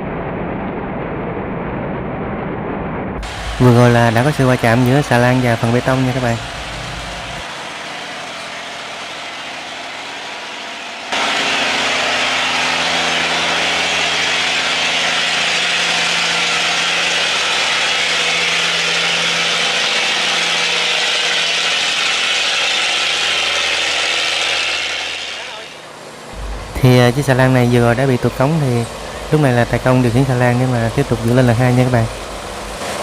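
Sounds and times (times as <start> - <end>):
diesel engine running hard: 3.2 - 33.0.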